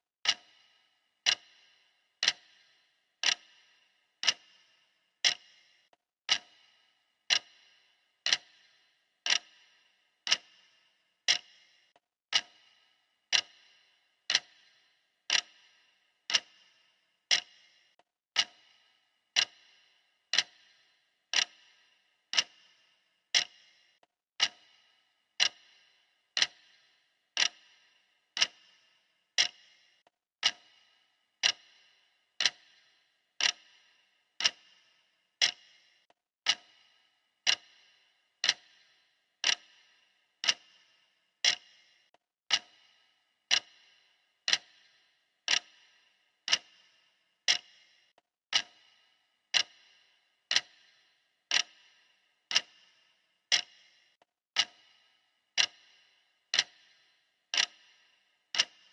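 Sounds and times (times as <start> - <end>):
timer ticking: 0.2 - 58.9.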